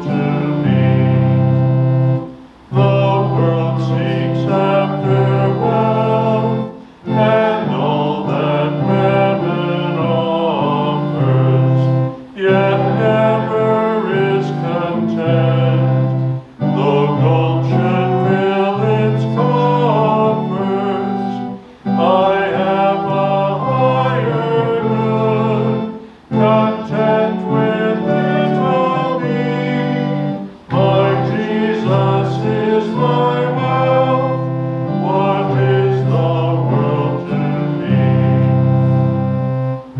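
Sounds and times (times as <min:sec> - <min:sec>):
congregation singing a hymn: 0:00.0 - 0:39.9
organ accompaniment: 0:00.0 - 0:39.9.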